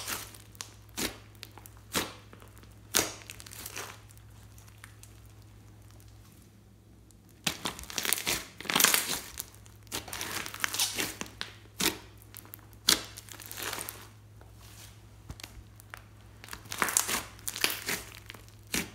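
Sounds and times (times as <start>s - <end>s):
hands squishing slime: 0.0s - 18.9s.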